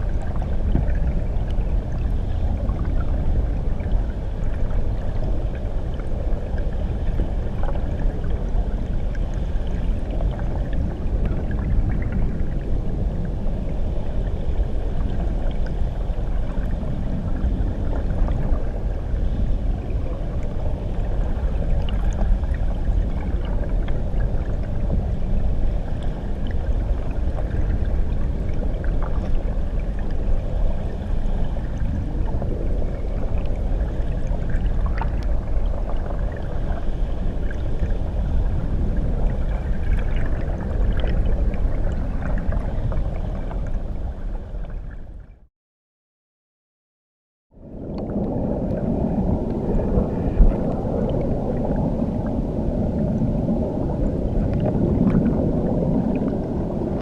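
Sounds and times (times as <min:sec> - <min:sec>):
faint ticks and bubbling: 0:00.0 - 0:45.5, 0:47.5 - 0:57.0
muffled rumble of churning water: 0:00.0 - 0:45.5, 0:47.5 - 0:57.0.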